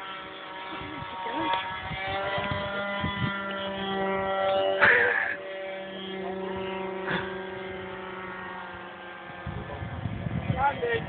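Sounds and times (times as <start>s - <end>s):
model plane motor droning: 0.0s - 11.0s.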